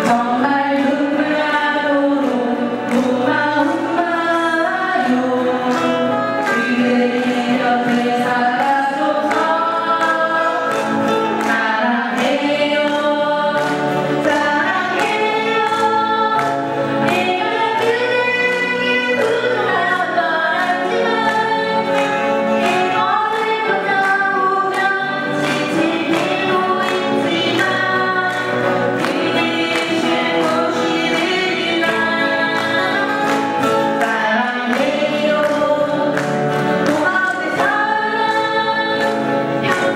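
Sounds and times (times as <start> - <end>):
acoustic guitars strumming: 0.0 - 39.9
women singing in harmony: 0.0 - 39.9.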